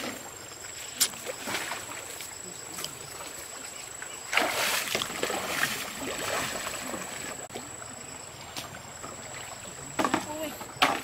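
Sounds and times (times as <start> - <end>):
person wading through water: 0.0 - 10.8.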